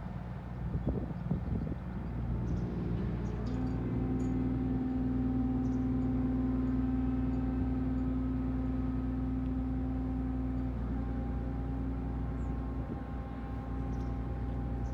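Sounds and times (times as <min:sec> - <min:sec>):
ship engine drone: 0:02.0 - 0:14.9.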